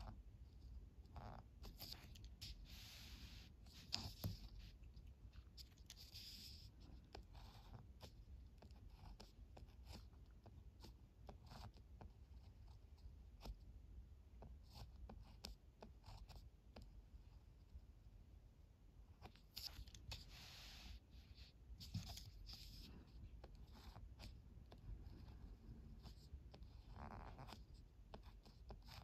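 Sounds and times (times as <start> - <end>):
pen scratching on paper: 0.0 - 13.7, 14.4 - 17.5, 19.1 - 29.0.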